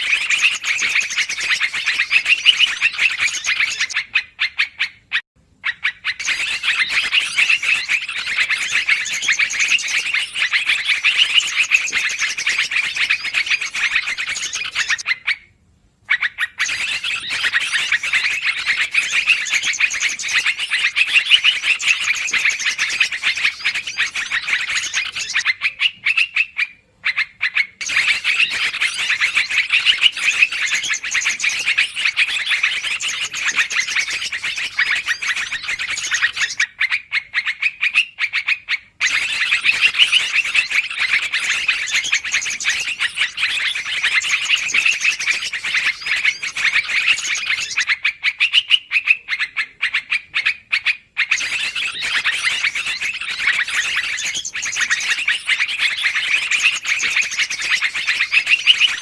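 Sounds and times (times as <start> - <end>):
bulbuls chirping rapidly: 0.0 - 15.5, 16.1 - 59.0.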